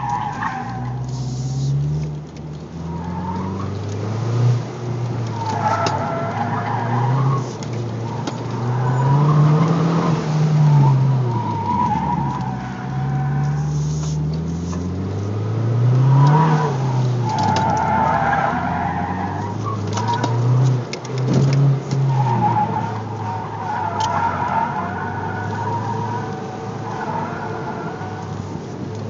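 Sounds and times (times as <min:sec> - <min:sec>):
car engine revving: 0:00.0 - 0:28.6.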